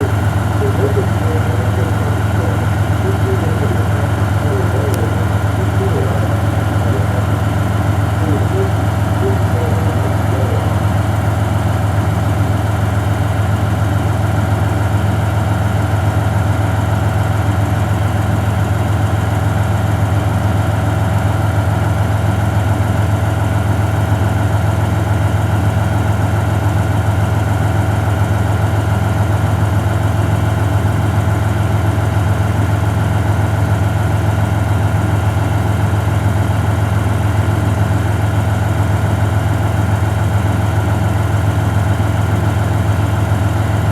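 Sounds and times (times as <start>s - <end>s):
diesel engine idling: 0.0s - 23.8s, 24.4s - 43.9s.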